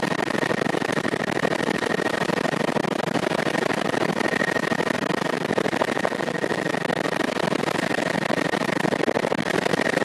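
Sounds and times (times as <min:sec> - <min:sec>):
helicopter engine and rotor: 0:00.0 - 0:10.0.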